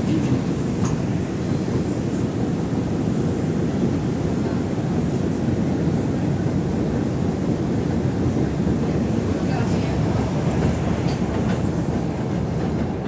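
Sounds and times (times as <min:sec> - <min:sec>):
subway car rumbling: 0:00.0 - 0:13.0.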